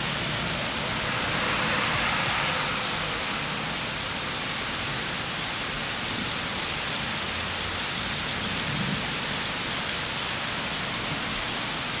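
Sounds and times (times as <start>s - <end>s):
heavy rain on wet road: 0.0s - 12.0s.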